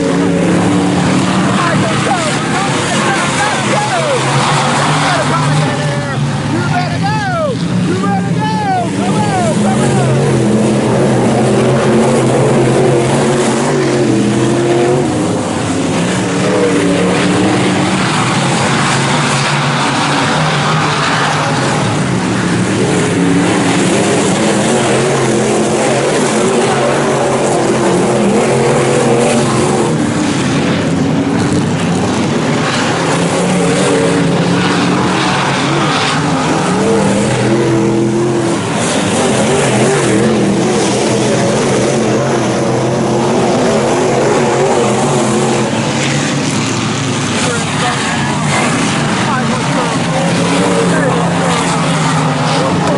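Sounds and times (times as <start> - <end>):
race car engines accelerating: 0.0 - 52.9.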